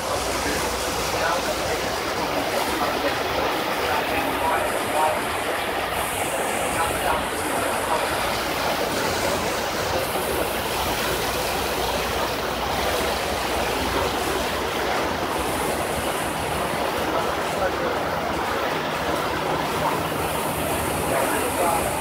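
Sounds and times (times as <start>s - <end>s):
water rushing along hull: 0.0s - 22.0s.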